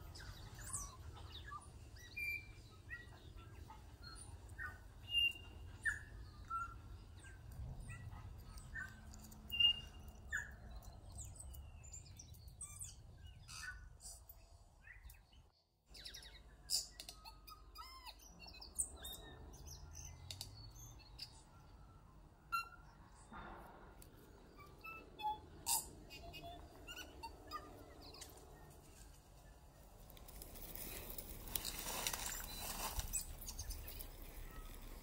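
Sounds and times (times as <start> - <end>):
birds chirping and calling: 0.0 - 15.4, 16.0 - 21.6, 24.2 - 35.0.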